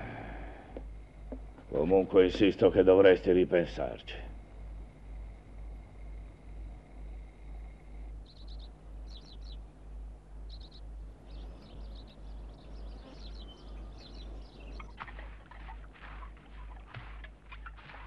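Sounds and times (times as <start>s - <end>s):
low pulsing hum: 0.0s - 18.0s
small birds chirping: 0.0s - 18.0s.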